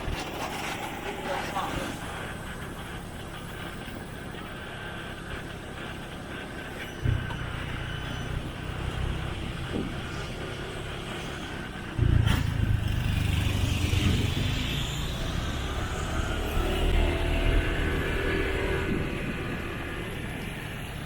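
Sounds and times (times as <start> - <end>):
motorcycle engine rumble: 0.0 - 21.0.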